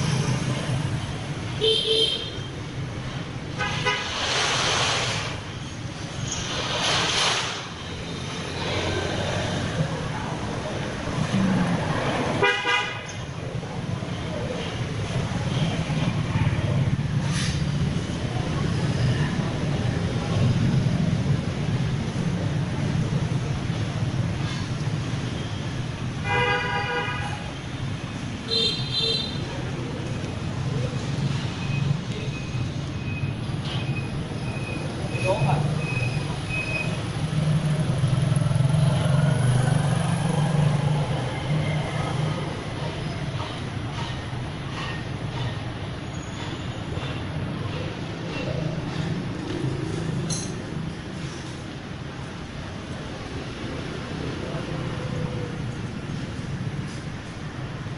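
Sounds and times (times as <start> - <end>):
road traffic rumble: 0.0 - 57.9.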